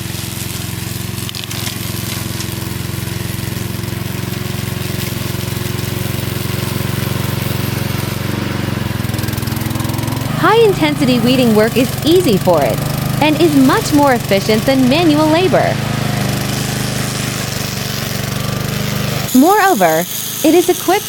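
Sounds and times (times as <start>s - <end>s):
lawn mower engine pulsing hum: 0.0s - 21.0s.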